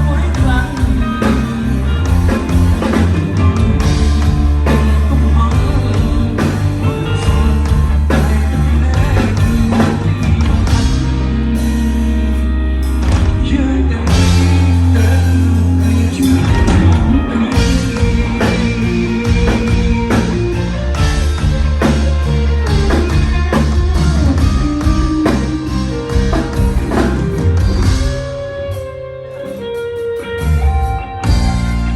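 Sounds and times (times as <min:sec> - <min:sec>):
bass guitar: 0:00.0 - 0:31.9
drum kit: 0:00.0 - 0:31.9
electric guitar: 0:00.0 - 0:31.9.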